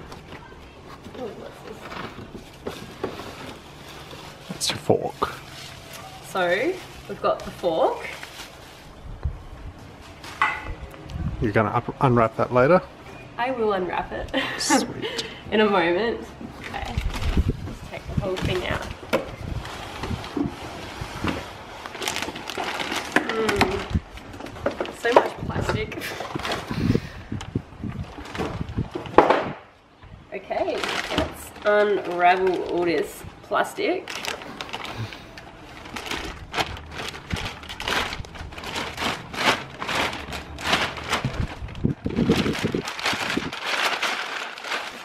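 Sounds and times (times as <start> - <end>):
plastic bag rustling and crinkling: 0.0 - 10.8, 14.6 - 29.5, 30.4 - 45.0.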